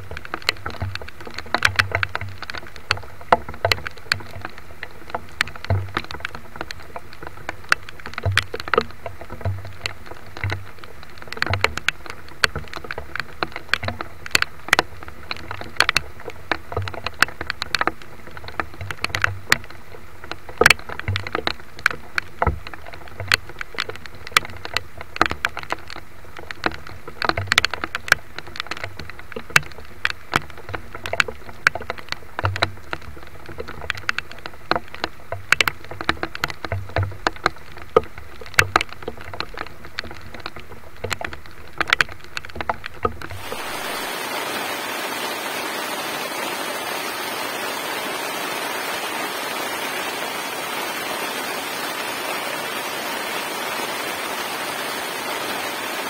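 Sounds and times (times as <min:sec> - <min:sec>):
raindrops tapping: 0:00.0 - 0:56.0.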